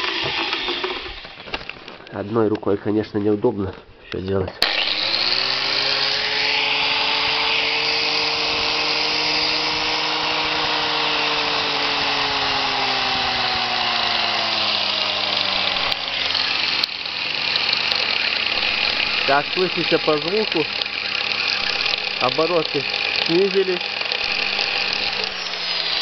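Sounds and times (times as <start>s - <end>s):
angle grinder motor whine: 0.0s - 2.0s, 4.6s - 26.0s.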